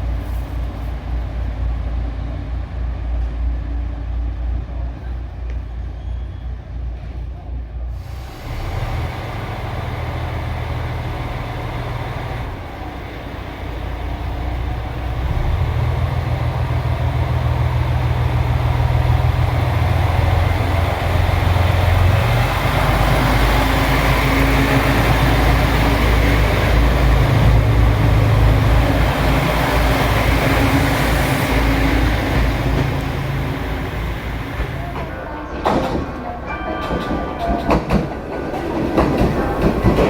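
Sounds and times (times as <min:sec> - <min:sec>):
train rumbling past: 0:00.0 - 0:40.0.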